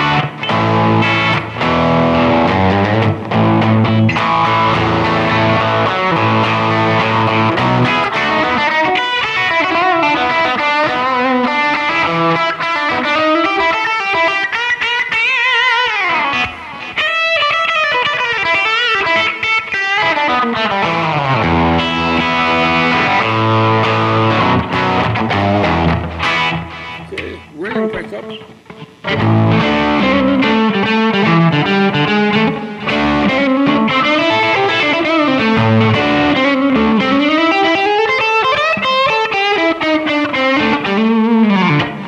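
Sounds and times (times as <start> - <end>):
overdriven electric guitar: 0.0 - 42.0.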